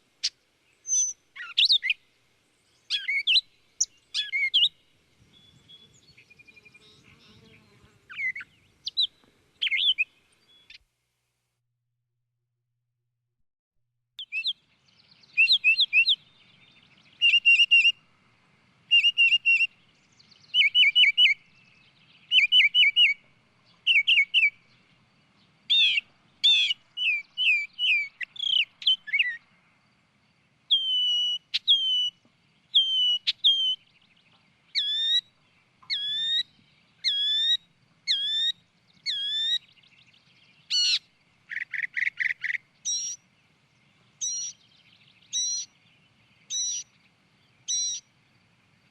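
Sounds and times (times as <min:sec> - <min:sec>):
songbird singing whistled phrases: 0:00.2 - 0:02.0, 0:02.8 - 0:10.8, 0:14.2 - 0:18.0, 0:18.9 - 0:24.8, 0:25.7 - 0:29.5, 0:30.7 - 0:43.3, 0:44.2 - 0:48.1.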